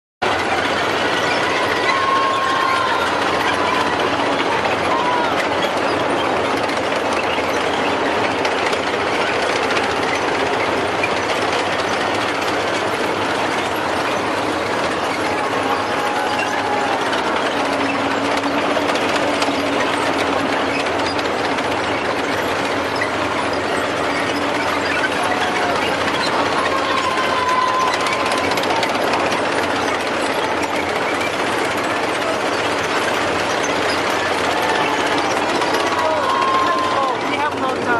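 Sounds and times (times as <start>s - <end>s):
tank engines running: 0.2s - 37.9s
tank tracks clattering on road: 0.2s - 37.9s.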